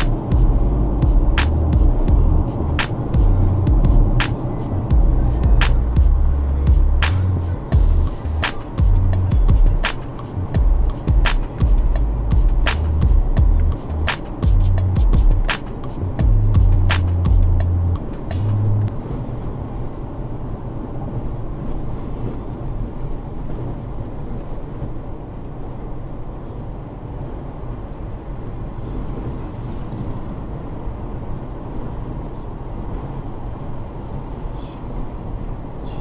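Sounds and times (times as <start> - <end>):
low engine hum: 0.0 - 36.0
road and tyre noise: 0.0 - 36.0.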